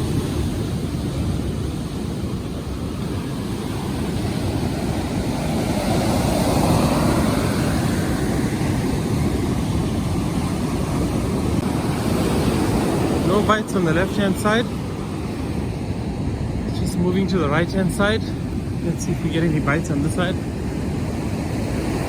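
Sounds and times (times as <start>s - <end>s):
surf breaking on beach: 0.0s - 22.0s
wind on microphone: 0.0s - 22.0s.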